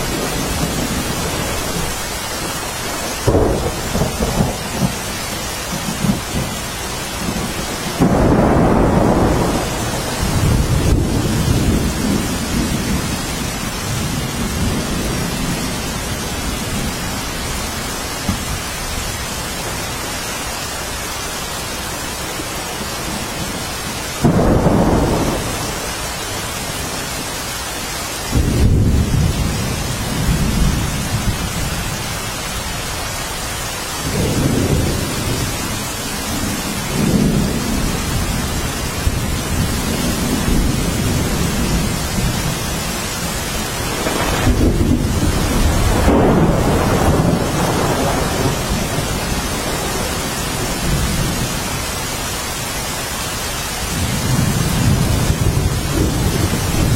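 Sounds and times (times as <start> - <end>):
thunder rumbling: 0.0 - 19.9, 21.6 - 27.2, 28.3 - 32.2, 32.9 - 51.9, 53.8 - 56.9
rain hissing: 0.0 - 56.9.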